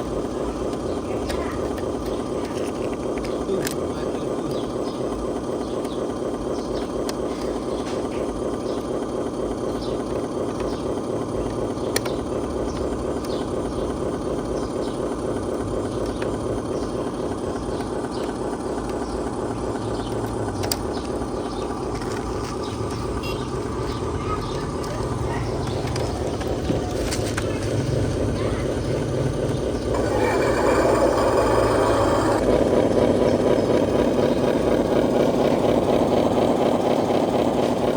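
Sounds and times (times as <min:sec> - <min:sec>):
sharp clicks: 0:00.0 - 0:32.5
electric motors whirring: 0:00.0 - 0:37.9.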